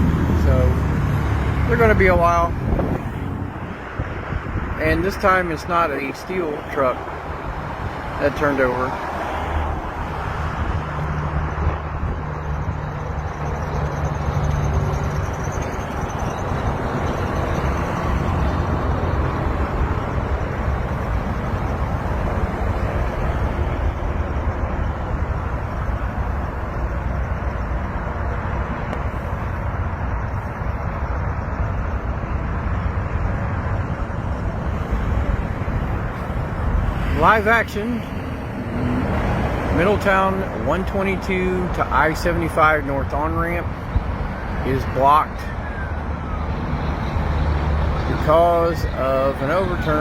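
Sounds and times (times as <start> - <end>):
road traffic noise: 0.0 - 50.0
low engine hum: 6.6 - 50.0.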